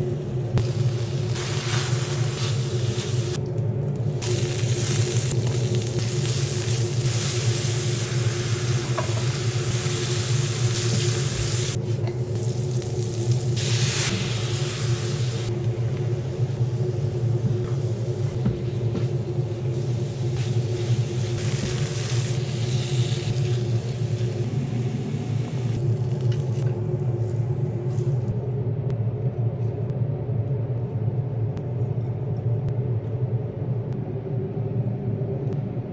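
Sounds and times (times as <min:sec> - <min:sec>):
low hum: 0:00.0 - 0:35.9.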